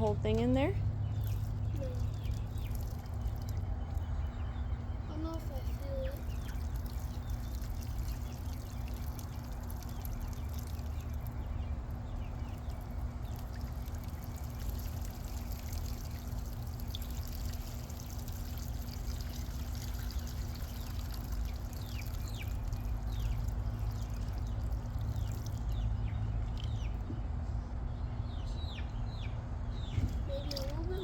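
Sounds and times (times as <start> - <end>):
water trickling: 0.3 - 4.3, 5.3 - 26.8.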